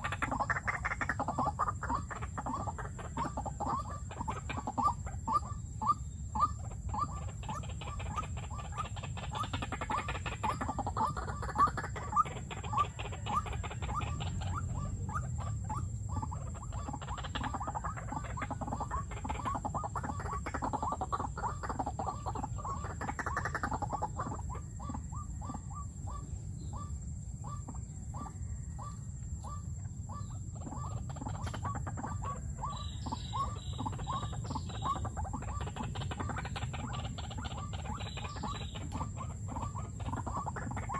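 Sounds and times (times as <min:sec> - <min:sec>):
waterhens croaking calls: 0:00.0 - 0:40.9.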